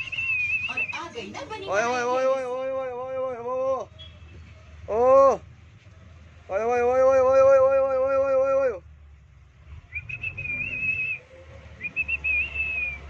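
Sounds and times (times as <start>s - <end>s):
low hum of bus engine: 0.0s - 13.0s.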